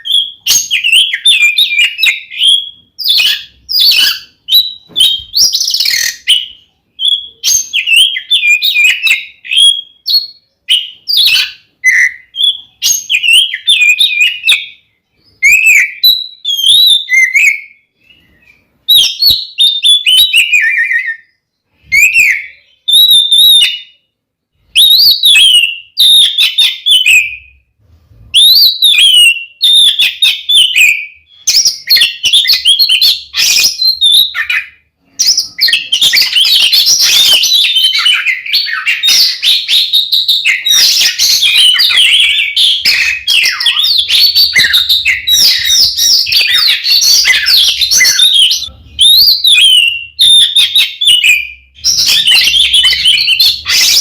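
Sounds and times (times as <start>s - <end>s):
bird singing loudly: 0.0s - 24.1s, 24.7s - 27.6s, 28.4s - 54.0s.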